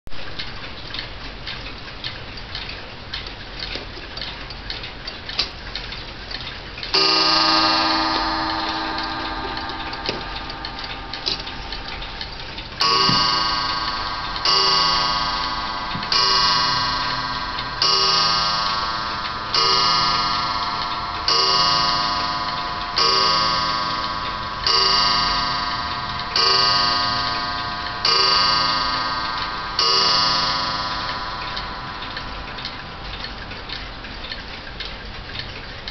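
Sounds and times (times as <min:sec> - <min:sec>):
clock striking the hour: 0:00.1 - 0:35.9
mantel clock ticking: 0:00.1 - 0:35.9.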